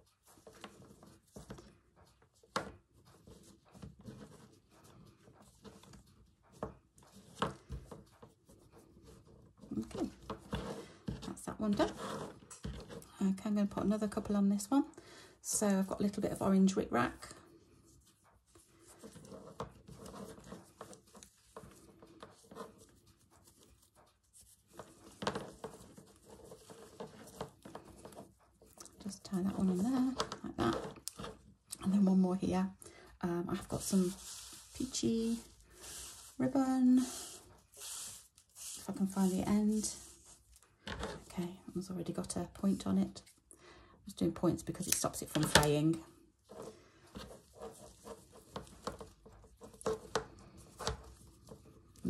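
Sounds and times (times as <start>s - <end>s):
fabric rustling and rubbing: 0.0s - 13.4s, 17.0s - 41.9s, 44.8s - 52.0s.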